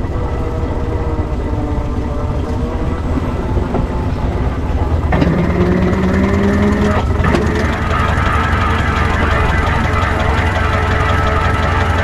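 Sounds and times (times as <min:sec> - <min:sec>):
loud steady low tone: 0:00.0 - 0:12.0
steam wagon engine rumble: 0:00.0 - 0:12.0.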